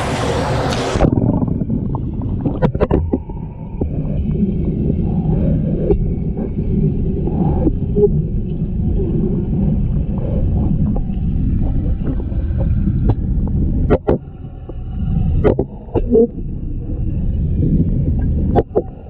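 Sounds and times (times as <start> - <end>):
underwater moving water rumble: 0.0 - 19.0.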